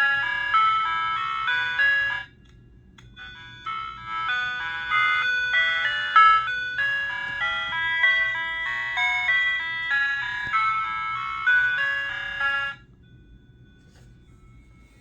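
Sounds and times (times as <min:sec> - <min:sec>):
ice cream truck electronic jingle: 0:00.0 - 0:15.0.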